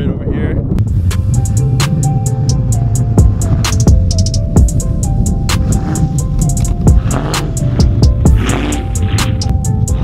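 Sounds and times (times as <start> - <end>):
deep bass line: 0.4 - 10.0
held synth notes: 0.8 - 10.0.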